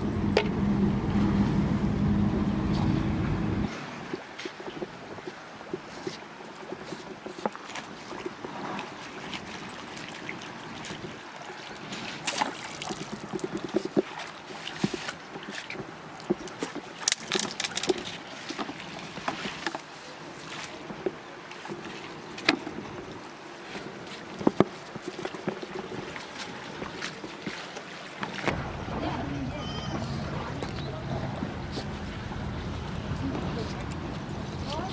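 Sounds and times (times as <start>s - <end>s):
river water lapping: 0.0s - 34.9s.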